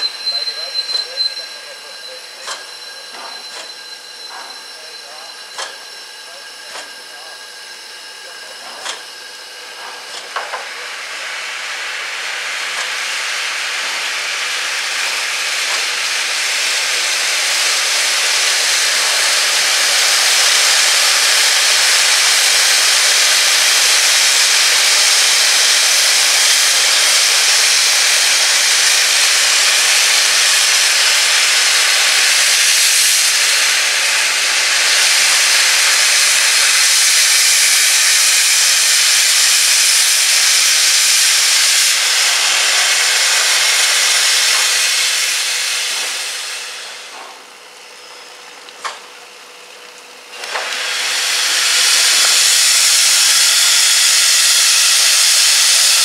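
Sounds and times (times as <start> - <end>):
steam locomotive venting steam: 0.0 - 56.0.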